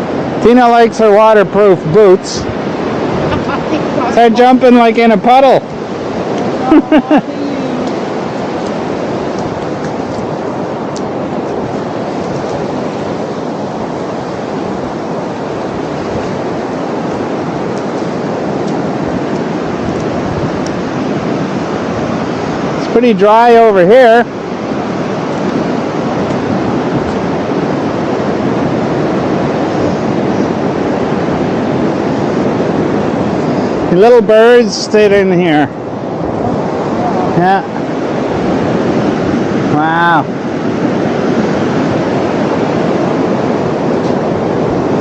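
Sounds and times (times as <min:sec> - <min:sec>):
ocean surf breaking: 0:00.0 - 0:45.0.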